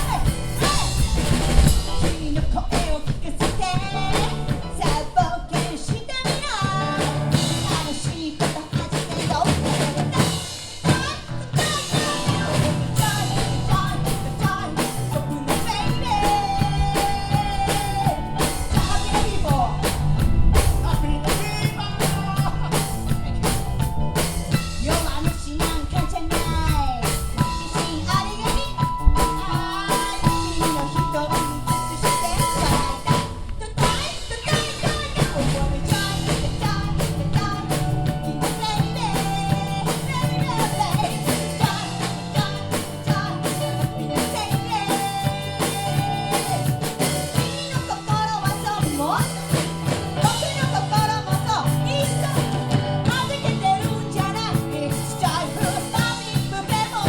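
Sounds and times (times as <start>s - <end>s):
bass: 0.0s - 57.0s
drum kit beat: 0.0s - 57.0s
person singing: 0.0s - 57.0s.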